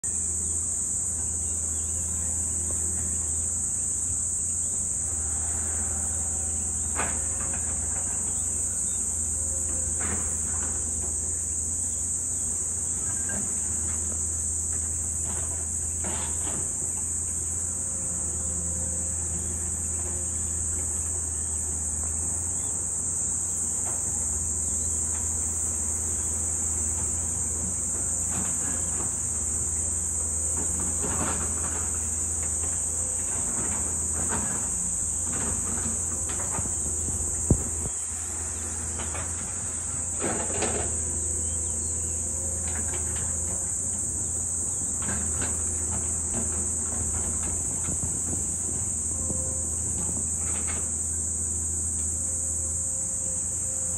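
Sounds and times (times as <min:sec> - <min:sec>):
distant diesel engines droning: 0:00.0 - 0:53.9
high insect buzz: 0:00.0 - 0:53.9.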